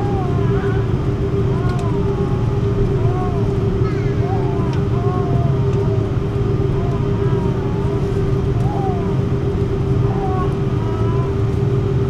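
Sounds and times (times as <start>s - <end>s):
machine drone humming: 0.0s - 12.0s.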